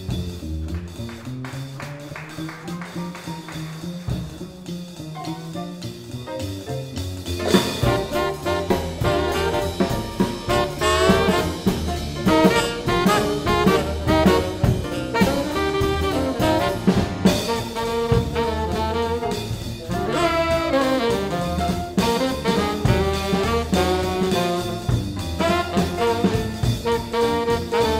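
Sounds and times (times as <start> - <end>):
swing band playing: 0.0 - 27.9.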